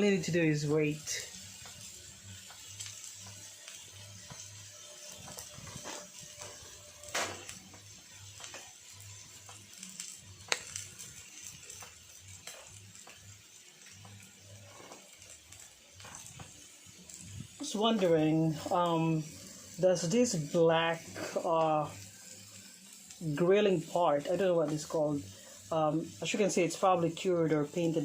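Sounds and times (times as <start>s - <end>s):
meat sizzling on grill pan: 0.0s - 28.0s.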